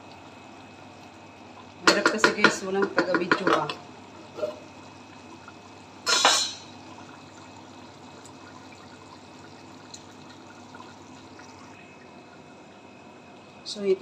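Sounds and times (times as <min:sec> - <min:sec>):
pot boiling and bubbling: 0:00.0 - 0:14.0.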